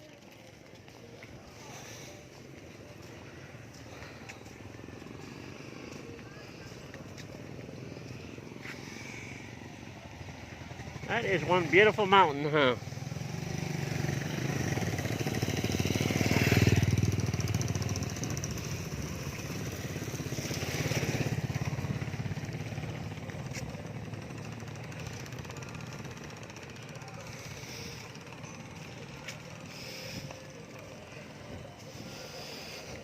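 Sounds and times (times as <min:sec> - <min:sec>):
motorcycles passing: 0:00.0 - 0:33.0.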